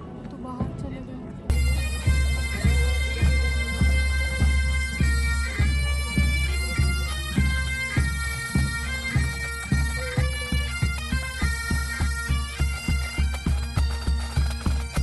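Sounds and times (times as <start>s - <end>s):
bagpipes playing a melody: 1.5s - 15.0s
drum beating: 1.5s - 15.0s.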